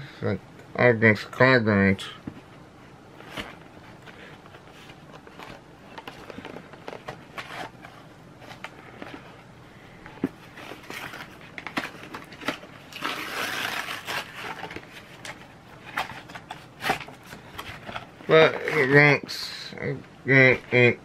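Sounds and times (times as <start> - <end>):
rustling and crinkling: 2.1 - 19.1.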